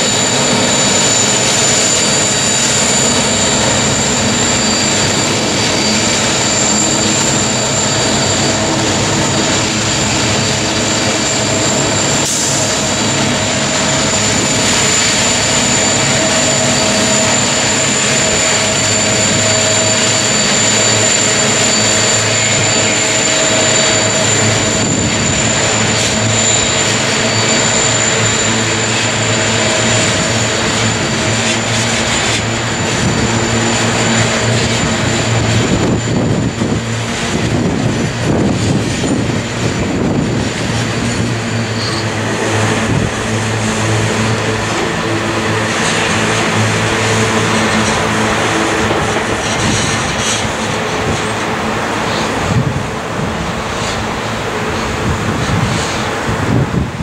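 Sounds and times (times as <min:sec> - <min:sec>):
locomotive engine drone and whine: 0:00.0 - 0:57.0
wheels rumbling on rails: 0:00.0 - 0:57.0.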